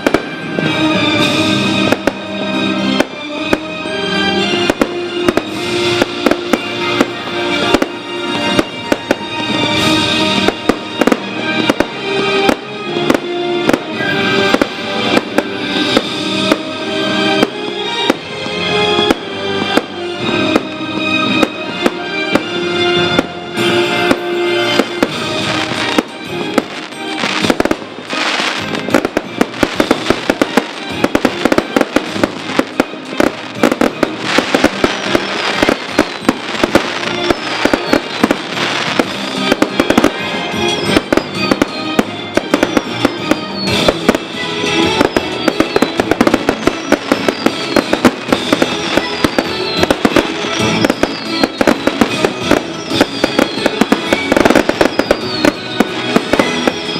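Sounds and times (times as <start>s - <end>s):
fireworks bursts and crackling: 0.0s - 56.9s
music playing: 0.0s - 56.9s.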